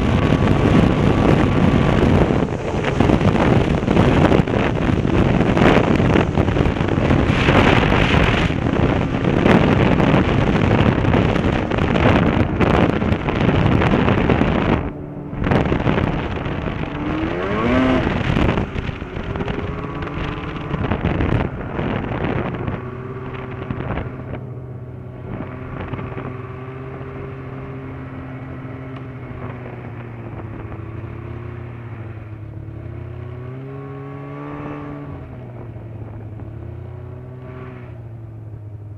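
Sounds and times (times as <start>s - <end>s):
snowmobile engine: 0.0s - 38.9s
wind on microphone: 0.0s - 38.9s.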